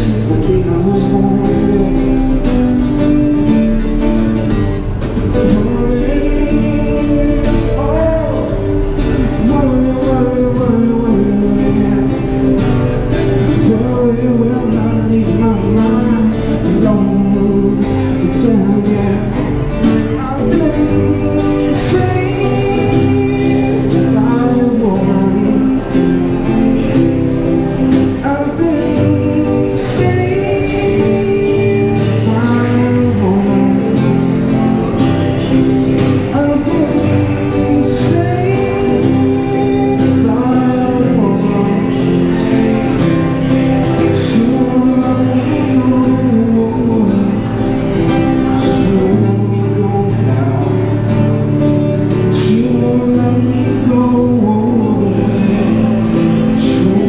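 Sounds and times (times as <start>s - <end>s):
acoustic guitar strumming: 0.0s - 57.0s
man singing into microphone: 0.0s - 57.0s.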